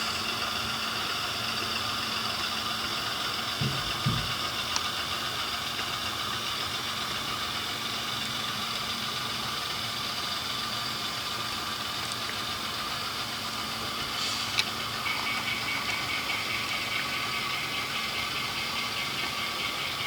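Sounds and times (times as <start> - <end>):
model locomotive engine idling: 0.0 - 20.0.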